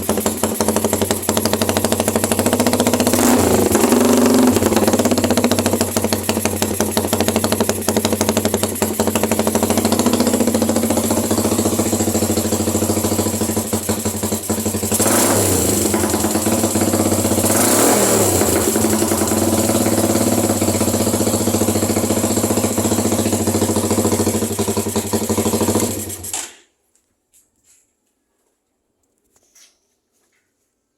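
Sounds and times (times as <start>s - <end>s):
motorcycle engine idling: 0.0s - 26.3s
motorcycle engine revving: 0.0s - 26.4s.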